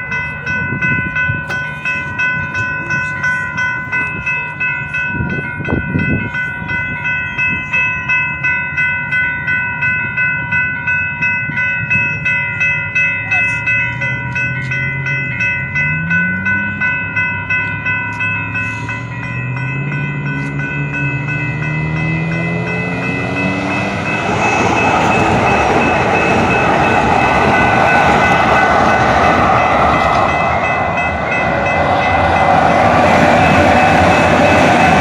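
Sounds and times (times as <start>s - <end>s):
train running on rails: 0.0s - 35.0s.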